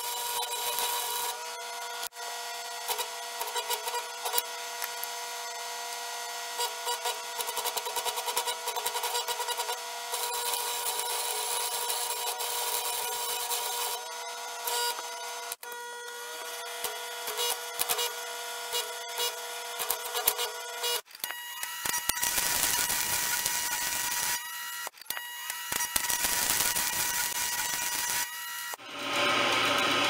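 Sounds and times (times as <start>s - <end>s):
welder hum: 0.0s - 30.0s
welding arc crackling and sizzling: 0.0s - 30.0s.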